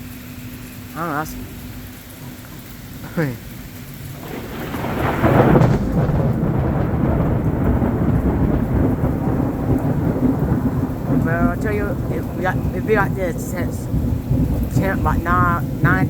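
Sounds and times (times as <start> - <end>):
heavy rain hissing: 0.0 - 16.0
thunder rumbling: 0.0 - 16.0.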